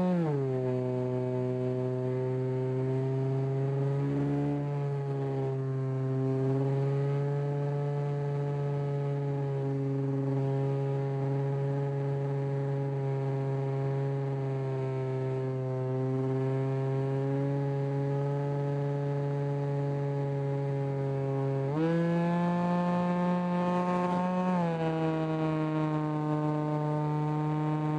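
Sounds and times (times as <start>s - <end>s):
model airplane motor and propeller: 0.0s - 27.9s.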